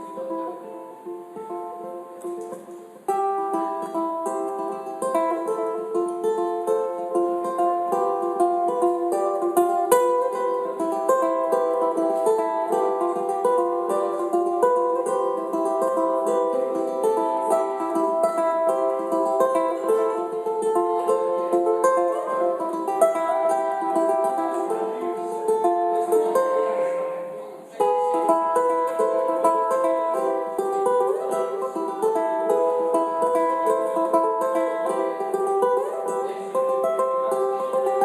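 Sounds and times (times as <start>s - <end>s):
looped ukulele plucking: 0.0s - 38.0s.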